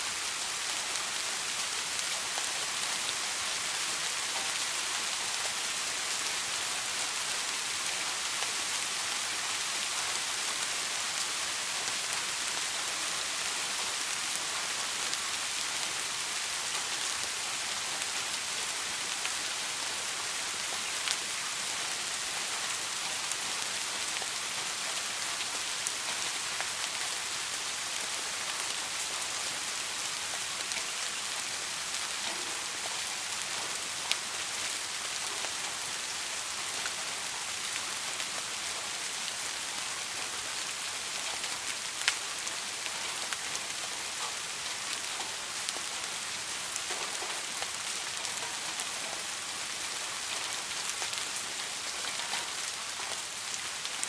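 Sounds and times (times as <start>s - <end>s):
soft rain falling: 0.0s - 54.0s.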